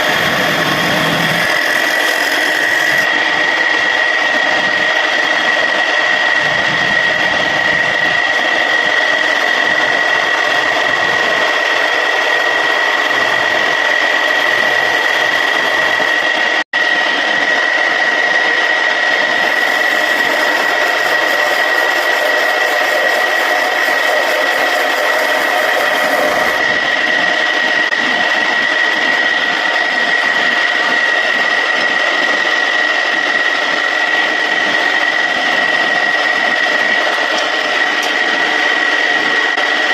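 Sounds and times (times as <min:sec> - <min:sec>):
wood lathe whining: 0:00.0 - 0:39.9.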